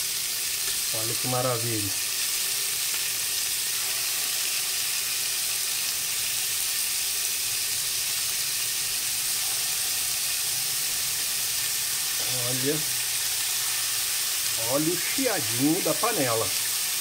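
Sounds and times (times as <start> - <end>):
beef sizzling in hot fat: 0.0 - 17.0.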